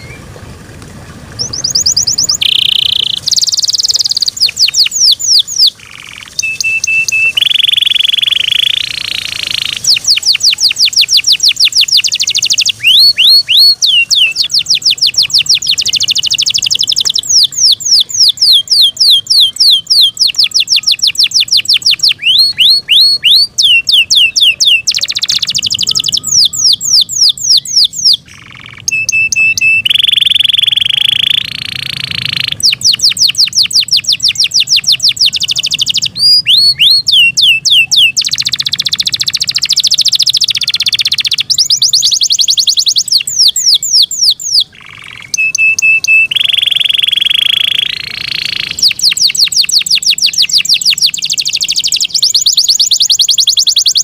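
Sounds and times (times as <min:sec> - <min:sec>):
canary singing: 0:00.0 - 0:00.3, 0:01.3 - 0:54.0.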